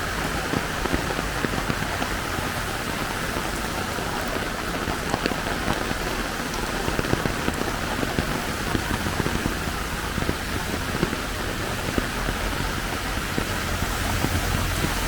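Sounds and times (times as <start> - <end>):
heavy rain falling: 0.0 - 15.0
raindrops ticking and splashing: 0.0 - 15.0.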